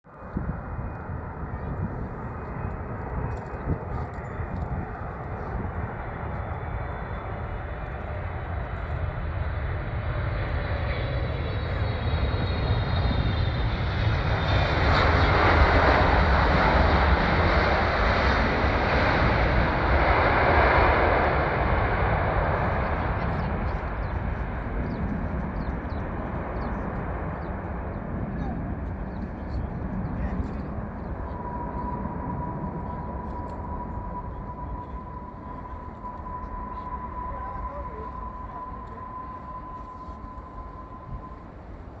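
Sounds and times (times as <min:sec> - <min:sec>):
high engine whine: 0:00.1 - 0:42.0
jet engines rumbling: 0:00.1 - 0:42.0.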